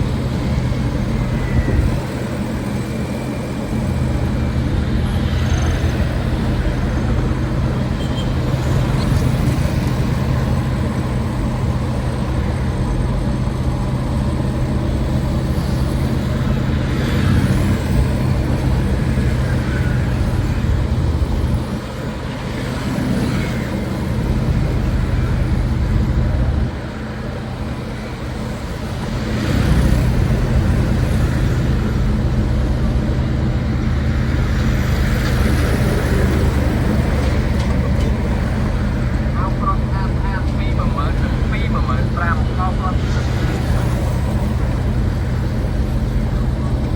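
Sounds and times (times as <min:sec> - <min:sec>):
low engine hum: 0:00.0 - 0:46.9
vehicles passing: 0:00.0 - 0:46.9.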